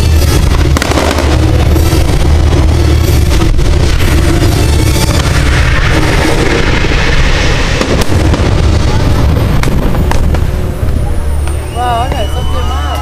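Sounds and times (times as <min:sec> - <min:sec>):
sharp firework bangs: 0:00.0 - 0:12.5
deep rumble: 0:00.0 - 0:13.0
fireworks bursting: 0:00.0 - 0:13.0.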